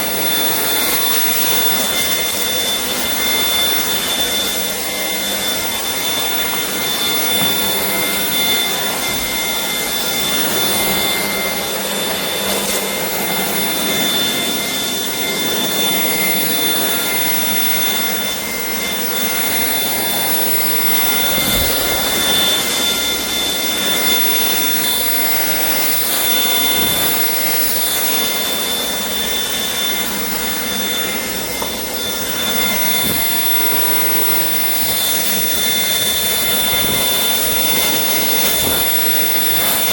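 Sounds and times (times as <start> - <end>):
stick vacuum whining: 0.0 - 39.9.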